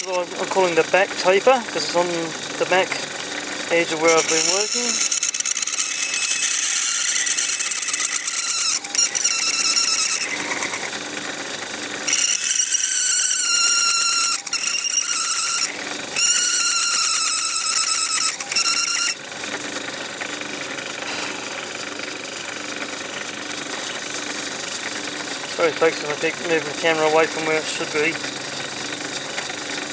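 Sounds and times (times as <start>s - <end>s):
cutting tool squealing: 0.0s - 29.9s
lathe running: 0.0s - 29.9s.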